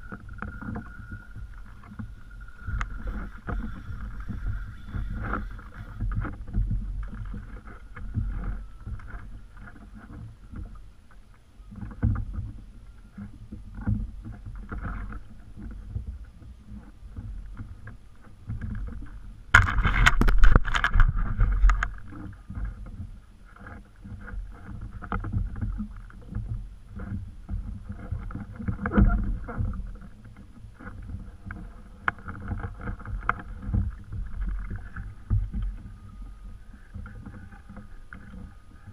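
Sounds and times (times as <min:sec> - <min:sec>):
knocks and bumps from boat: 0:00.0 - 0:38.9
water lapping against kayak hull: 0:00.0 - 0:38.9.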